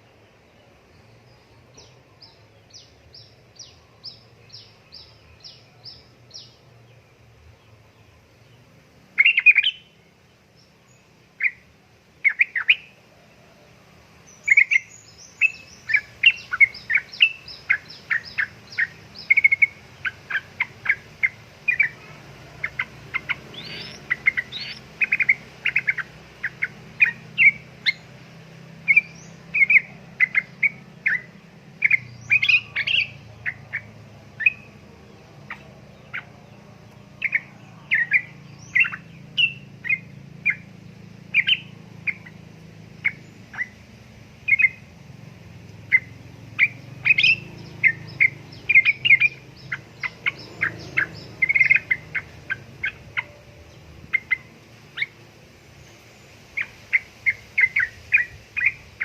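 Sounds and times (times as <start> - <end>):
bird chirping chatter: 0.0 - 59.0.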